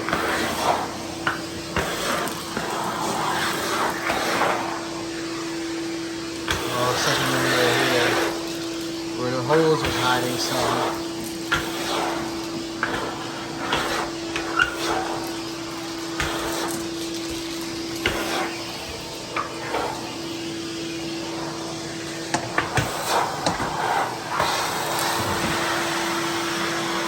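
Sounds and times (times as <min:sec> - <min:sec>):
shop vacuum motor whine: 0:00.0 - 0:27.0.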